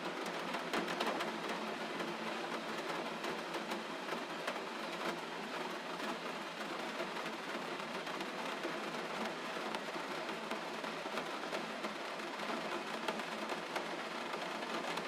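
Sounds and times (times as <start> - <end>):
gentle rain: 0.0 - 15.0.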